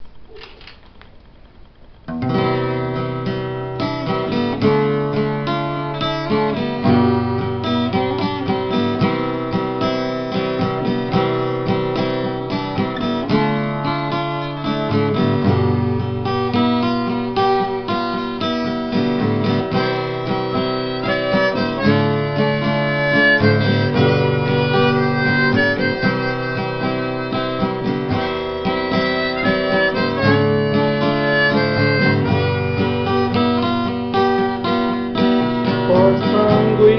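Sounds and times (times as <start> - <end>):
acoustic guitar: 0.0 - 36.9
harmonica: 2.4 - 36.9.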